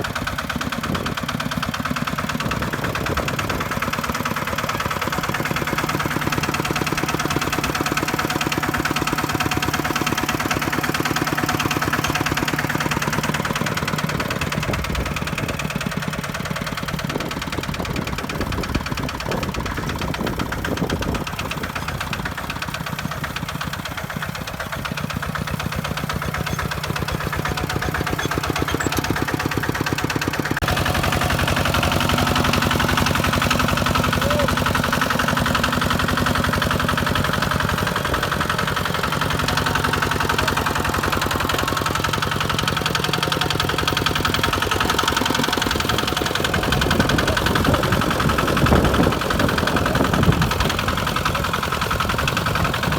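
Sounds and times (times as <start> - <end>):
diesel engine running steadily: 0.0 - 52.9.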